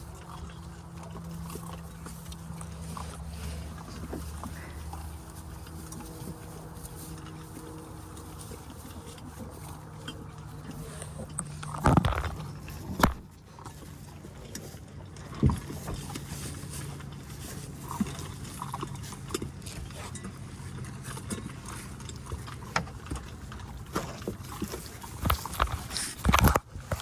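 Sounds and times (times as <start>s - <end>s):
puppies scuffling: 0.0s - 27.0s
steady low hum: 0.0s - 27.0s.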